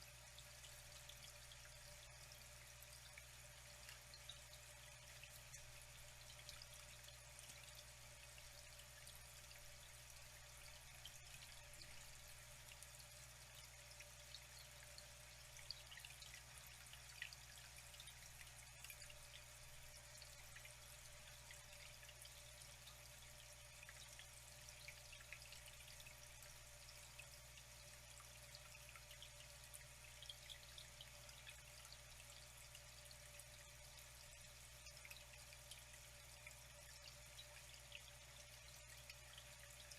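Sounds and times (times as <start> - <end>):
faint water trickling: 0.0 - 39.9
water drips and splashes: 0.0 - 39.9.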